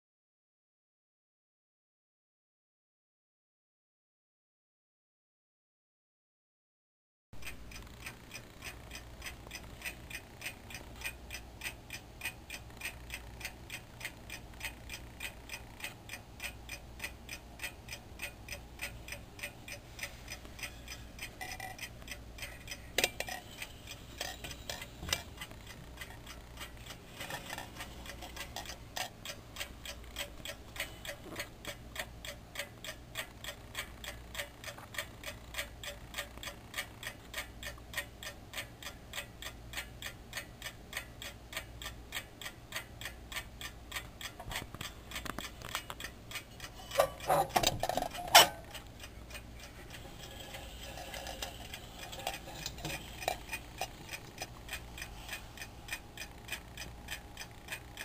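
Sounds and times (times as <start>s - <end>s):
clock ticking: 7.4s - 58.0s.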